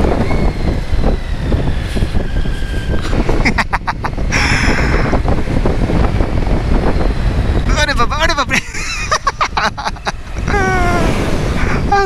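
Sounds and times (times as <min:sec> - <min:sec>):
motorcycle engine and road noise: 0:00.0 - 0:12.0
wind buffeting microphone: 0:00.0 - 0:12.0.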